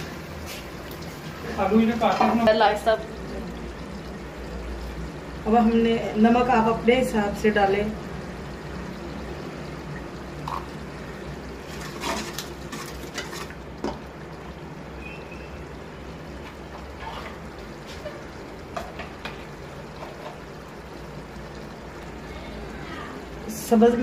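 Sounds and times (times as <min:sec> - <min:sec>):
sauce bubbling and sizzling in oil: 0:00.0 - 0:24.0.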